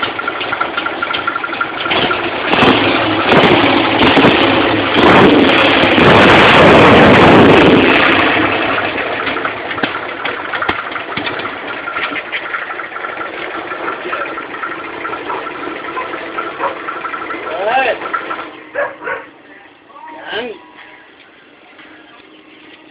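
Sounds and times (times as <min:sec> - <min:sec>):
motorcycle engine idling: 0:00.0 - 0:05.8, 0:07.8 - 0:22.9.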